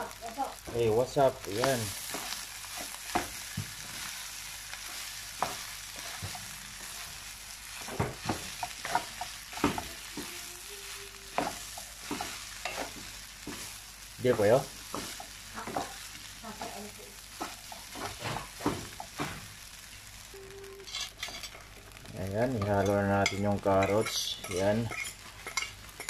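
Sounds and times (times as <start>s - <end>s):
rice sizzling in wok: 0.0s - 26.0s
spatula knocking and scraping wok: 1.5s - 10.4s, 11.3s - 19.5s, 20.9s - 21.8s, 22.6s - 26.0s.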